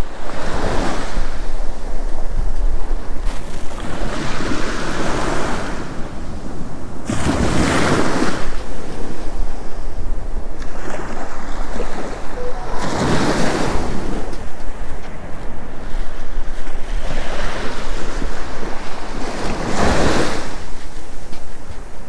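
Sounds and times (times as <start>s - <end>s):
waves washing on shore: 0.0s - 22.0s
wind rumble on microphone: 0.0s - 22.0s.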